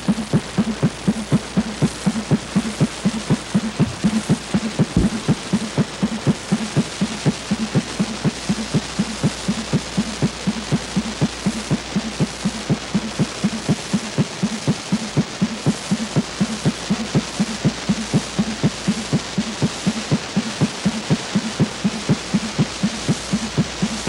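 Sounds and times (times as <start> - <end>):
constant hiss: 0.0 - 24.0
low drum pulse: 0.0 - 24.0.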